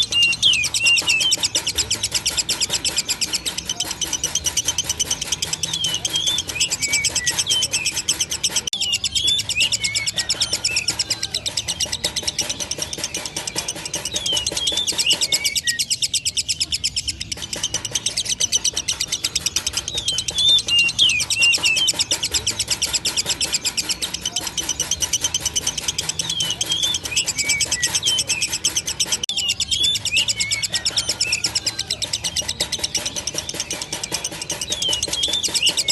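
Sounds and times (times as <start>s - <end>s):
lovebird chattering trill: 0.0s - 35.9s.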